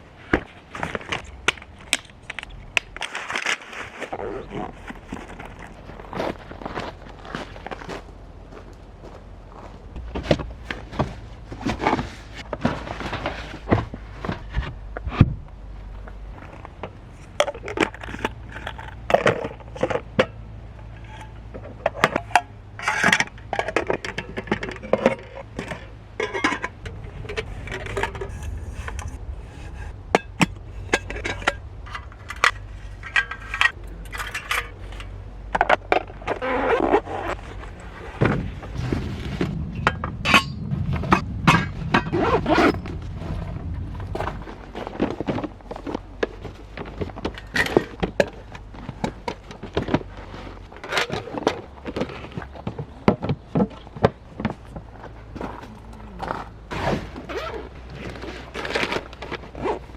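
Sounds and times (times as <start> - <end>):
rustling: 9.6 - 59.9.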